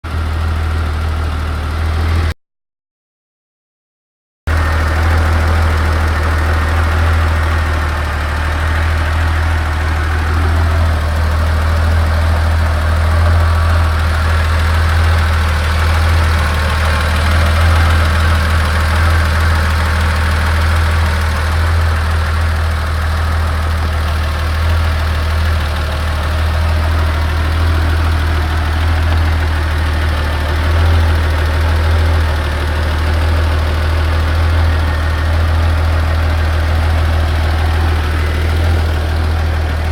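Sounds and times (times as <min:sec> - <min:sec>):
car engine idling: 0:00.0 - 0:02.3, 0:04.5 - 0:39.9
engine ticking: 0:00.0 - 0:02.3, 0:04.5 - 0:39.9.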